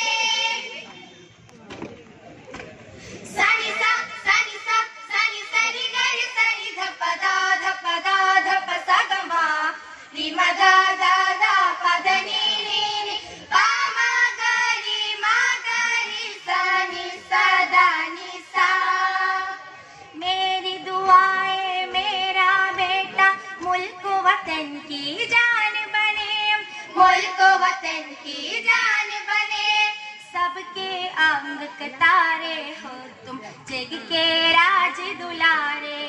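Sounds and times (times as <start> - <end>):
girls singing together: 0.0 - 0.9, 3.2 - 36.0.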